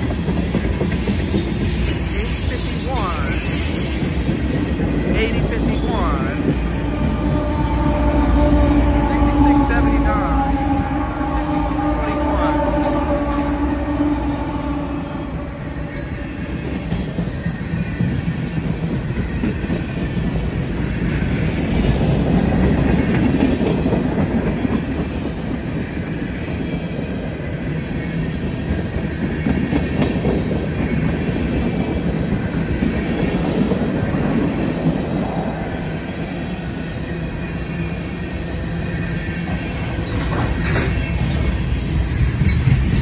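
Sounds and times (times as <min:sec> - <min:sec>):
steel train wheels rumbling on rails: 0:00.0 - 0:43.0.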